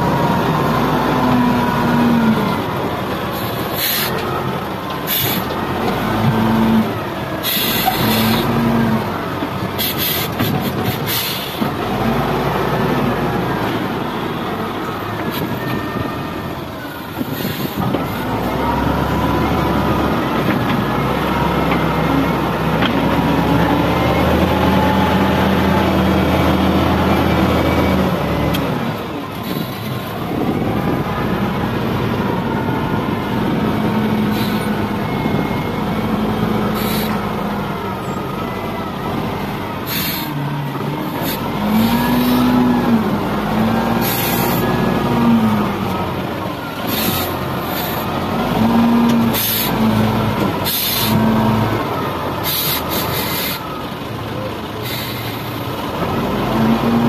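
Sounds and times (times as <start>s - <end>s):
wheel loader diesel engine revving: 0.0s - 57.0s.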